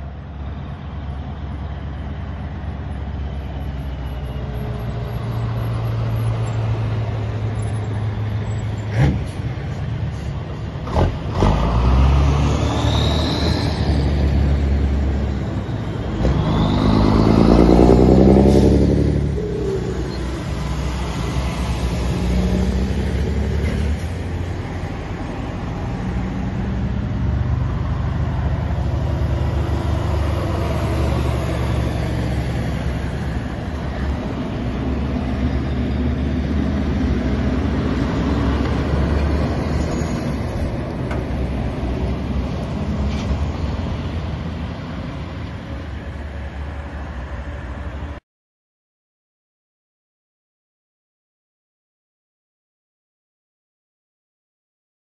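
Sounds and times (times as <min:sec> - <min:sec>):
diesel truck engines passing: 0:00.0 - 0:48.2.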